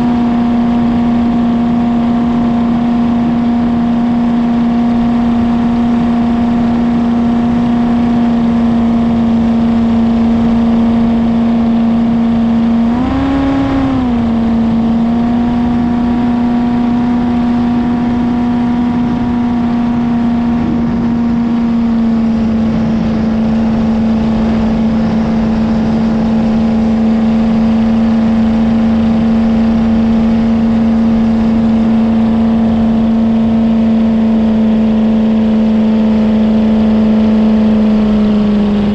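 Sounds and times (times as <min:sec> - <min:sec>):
jet boat engine running: 0:00.0 - 0:38.9.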